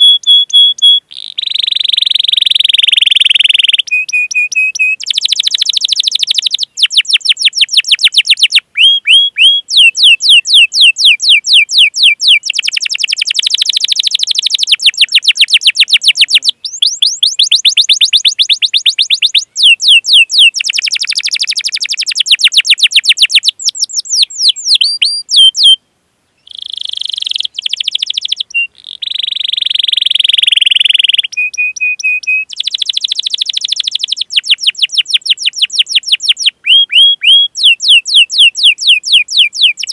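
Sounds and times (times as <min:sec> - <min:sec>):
canary singing: 0:00.0 - 0:25.8, 0:26.4 - 0:39.9.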